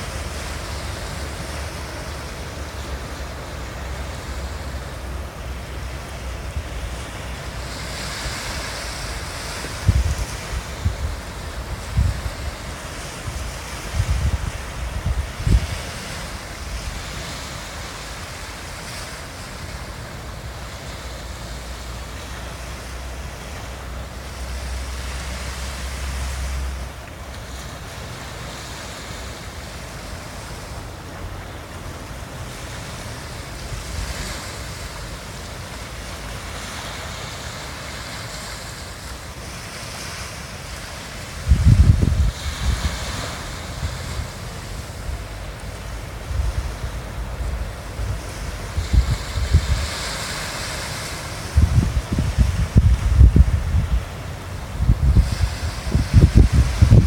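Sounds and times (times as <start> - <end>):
ocean waves breaking on beach: 0.0 - 57.0
wind rumbling on microphone: 0.0 - 57.0.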